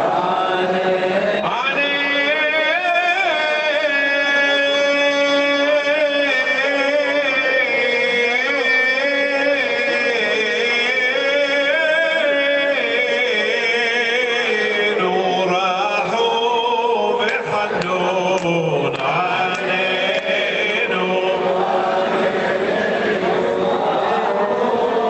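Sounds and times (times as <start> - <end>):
men chanting prayers: 0.0 - 25.0.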